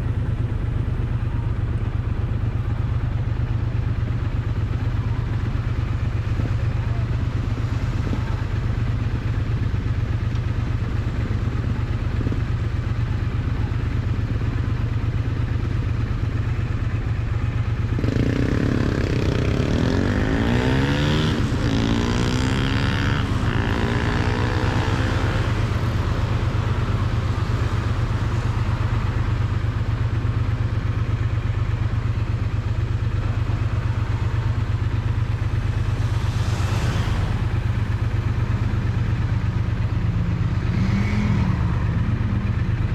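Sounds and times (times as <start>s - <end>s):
motorcycle exhaust running: 0.0s - 42.9s.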